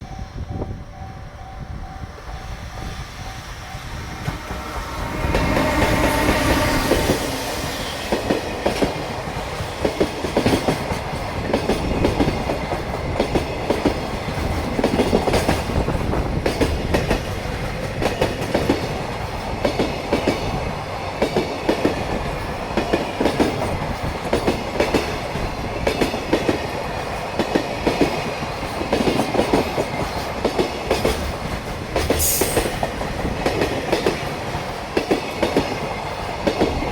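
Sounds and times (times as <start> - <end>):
electric locomotive passing: 0.0 - 36.9
train wheels clattering over rail joints: 4.1 - 36.9.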